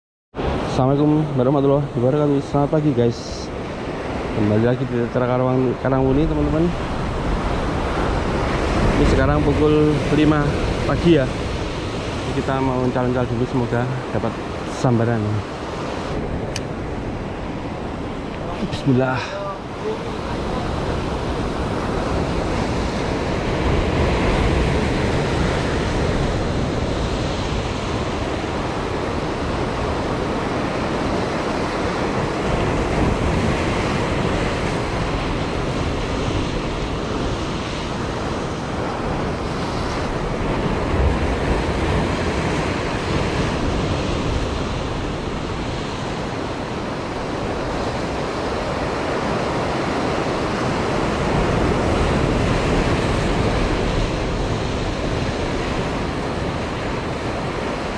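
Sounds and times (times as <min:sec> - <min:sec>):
sea surf against breakwater: 0:00.3 - 0:57.9
wind buffeting microphone: 0:03.4 - 0:14.7, 0:15.5 - 0:57.9.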